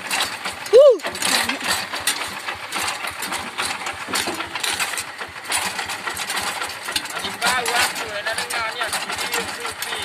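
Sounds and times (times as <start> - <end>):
tractor diesel engine chugging: 0.0 - 10.0.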